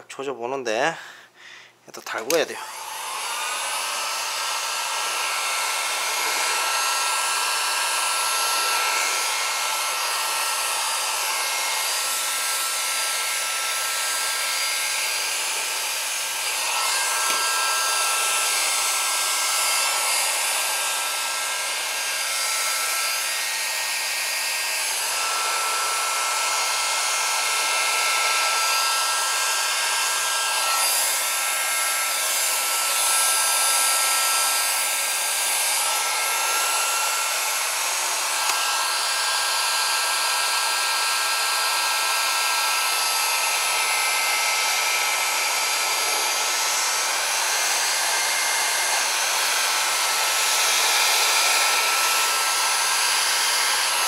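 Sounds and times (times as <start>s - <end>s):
heat gun blowing: 1.0s - 54.0s.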